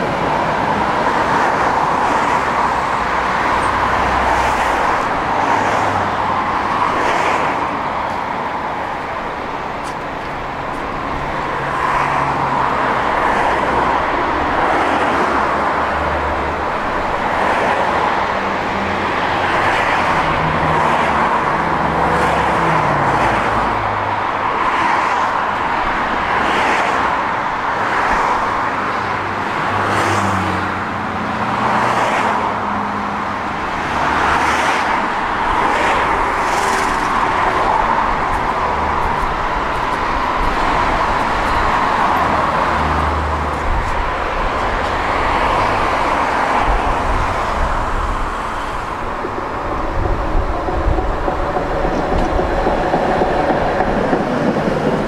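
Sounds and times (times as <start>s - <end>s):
vehicles passing by: 0.0s - 55.0s.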